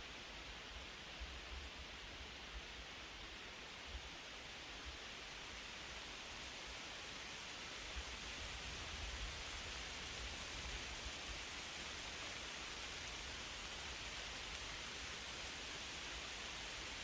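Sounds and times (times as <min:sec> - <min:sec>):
wind rustling leaves: 0:00.0 - 0:17.0.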